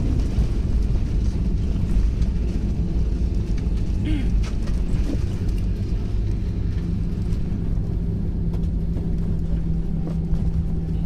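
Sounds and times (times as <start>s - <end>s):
jet cabin rumble and hum: 0.0s - 11.0s.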